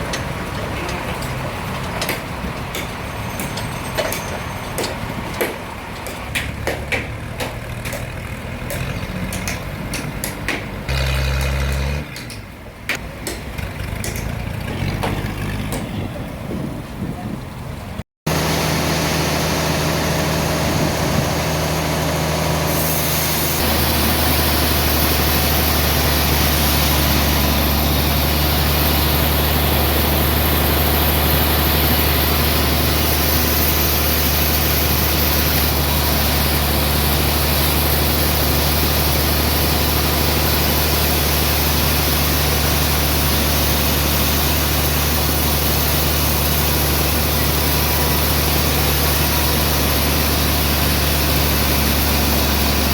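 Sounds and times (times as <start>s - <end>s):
sawmill machinery humming: 0.0s - 16.0s, 18.3s - 52.9s.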